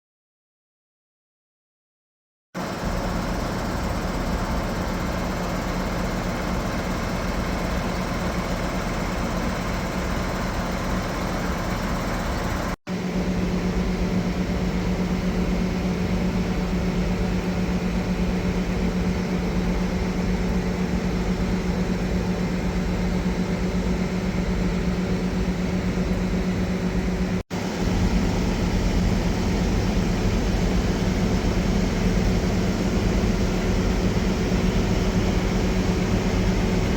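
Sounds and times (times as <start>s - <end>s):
combine harvester diesel engine running: 2.6s - 36.9s.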